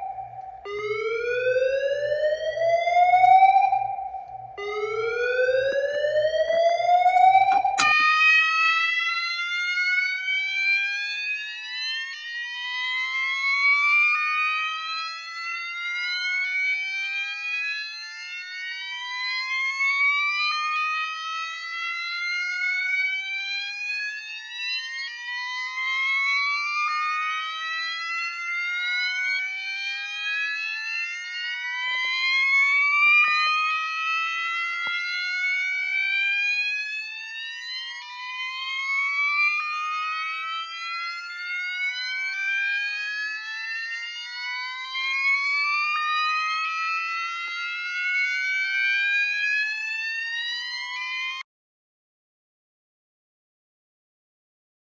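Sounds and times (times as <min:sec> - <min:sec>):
fire alarms whooping: 0:00.0 - 0:51.4.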